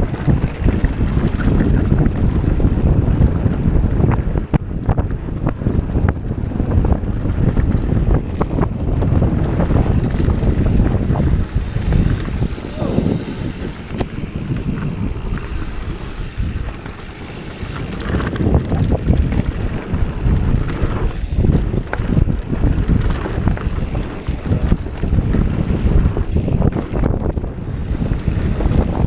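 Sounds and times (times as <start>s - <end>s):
bike rattles and knocks: 0.0s - 29.0s
bike tyres rumbling over dirt: 0.0s - 29.0s
wind buffeting microphone: 0.0s - 29.0s.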